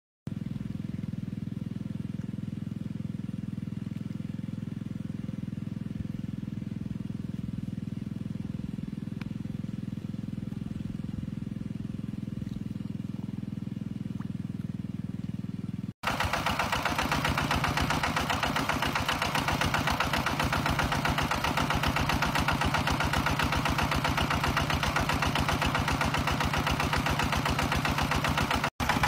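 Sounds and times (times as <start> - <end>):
engine-driven water pump running: 0.3 - 29.0.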